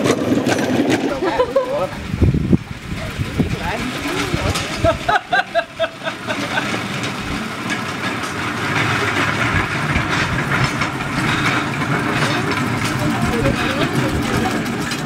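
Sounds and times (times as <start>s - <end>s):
steel wheels rattling on track: 0.0s - 15.0s.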